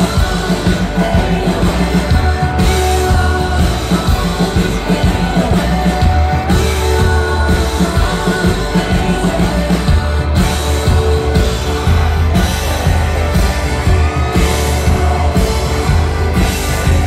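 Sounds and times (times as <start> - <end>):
live folk-rock band: 0.0 - 17.0
singer's voice: 0.0 - 17.0.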